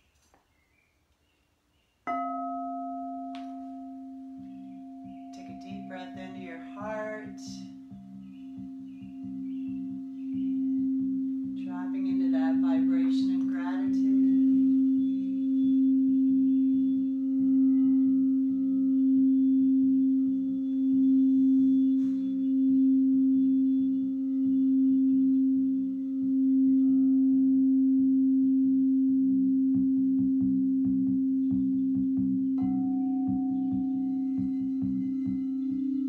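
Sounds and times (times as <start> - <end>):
singing bowl low tone: 2.1 - 36.0.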